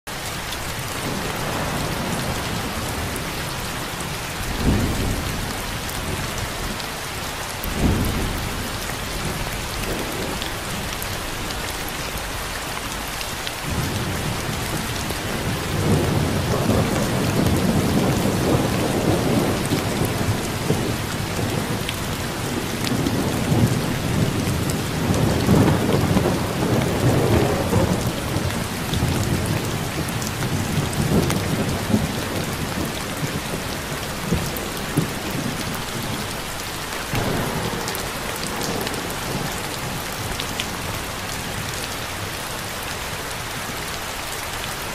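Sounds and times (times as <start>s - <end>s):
heavy rain falling: 0.1s - 44.9s
rolling thunder rumbling: 0.8s - 12.5s, 13.6s - 42.3s
sharp thunderclaps: 1.0s - 3.7s, 4.3s - 6.8s, 7.7s - 11.6s, 13.7s - 36.2s, 37.1s - 41.7s.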